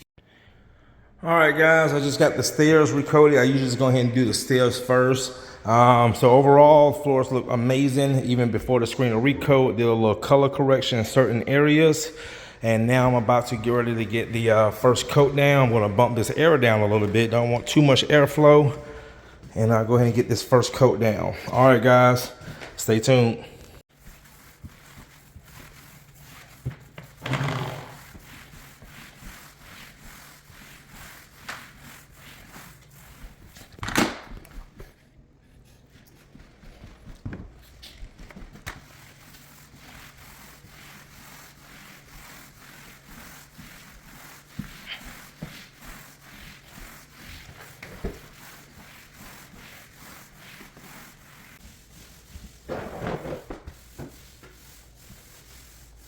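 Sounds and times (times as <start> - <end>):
applicator rubbing on wood floor: 7.5 - 33.7, 34.6 - 56.0.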